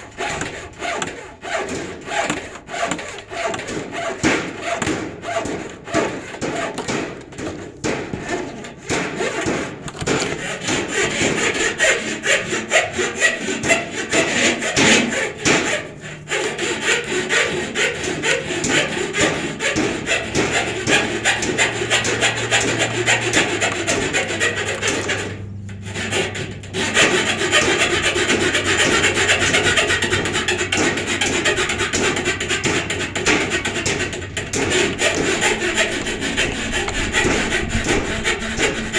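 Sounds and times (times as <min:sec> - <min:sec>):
saw rasping through wood: 0:00.0 - 0:38.9.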